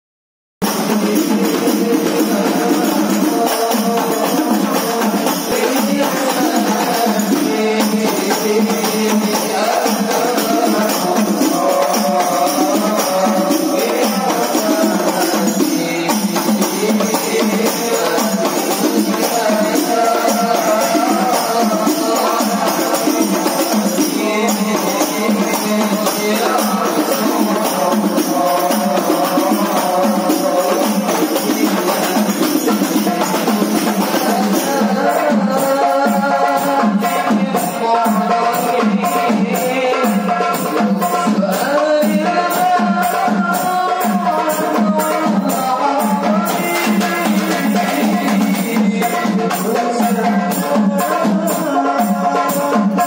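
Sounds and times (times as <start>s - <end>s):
frame drums fast interlocking beat: 0.6s - 53.0s
men chanting: 0.6s - 53.0s.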